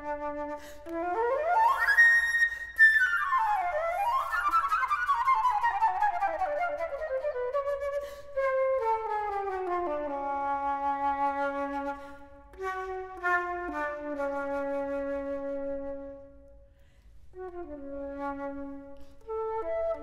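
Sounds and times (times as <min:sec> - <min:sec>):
flute playing: 0:00.0 - 0:16.4, 0:17.4 - 0:20.0.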